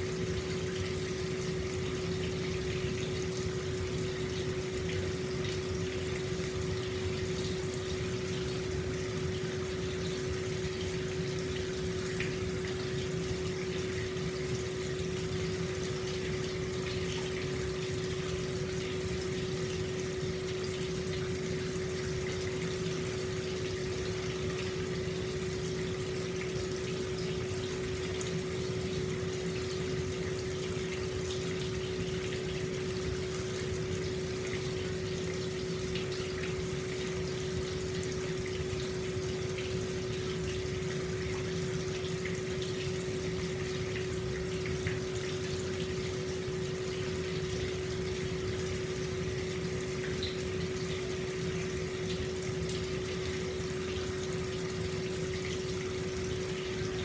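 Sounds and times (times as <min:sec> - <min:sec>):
water rushing into a bath: 0:00.0 - 0:57.0.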